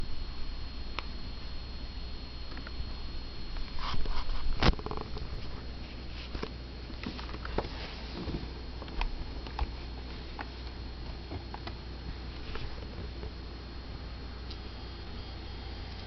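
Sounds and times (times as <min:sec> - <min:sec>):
laptop high-pitched whine: 0:00.0 - 0:16.0
low hum: 0:00.0 - 0:16.0.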